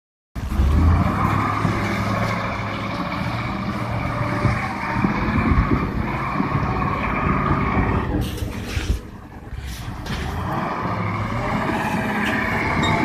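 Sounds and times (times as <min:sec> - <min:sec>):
truck diesel engine under load: 0:00.4 - 0:13.0.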